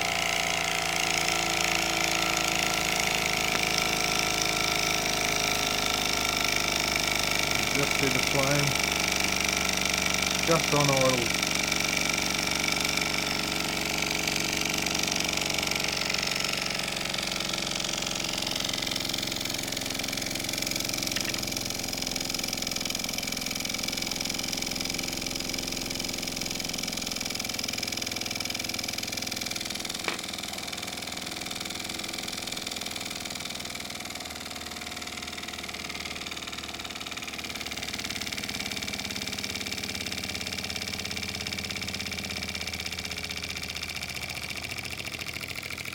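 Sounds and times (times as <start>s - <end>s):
miniature steam engine idling: 0.0s - 45.9s.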